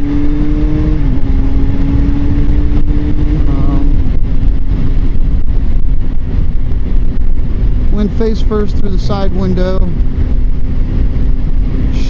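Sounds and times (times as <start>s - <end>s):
road and wind rumble: 0.0s - 12.0s
vehicle engine droning: 0.0s - 12.0s.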